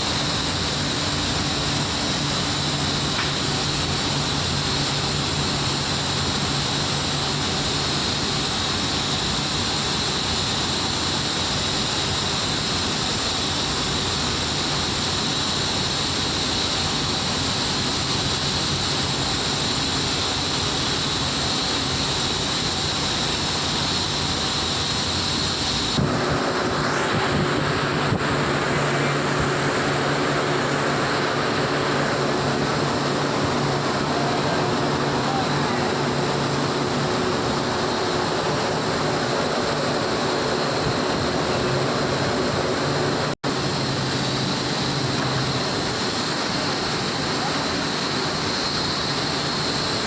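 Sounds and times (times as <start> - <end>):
blast furnace roar: 0.0 - 50.0
high whine: 0.0 - 50.0.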